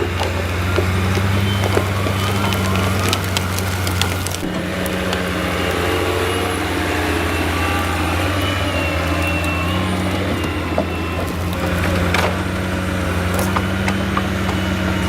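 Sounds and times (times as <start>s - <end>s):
heavy machine engine humming: 0.0s - 15.0s.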